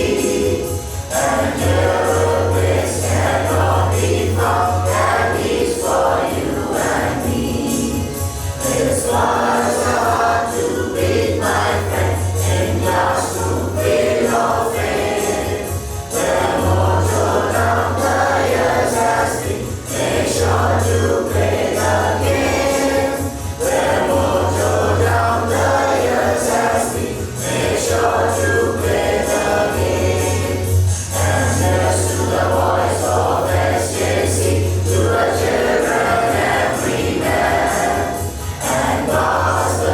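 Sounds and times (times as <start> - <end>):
group singing in chorus: 0.0 - 39.9.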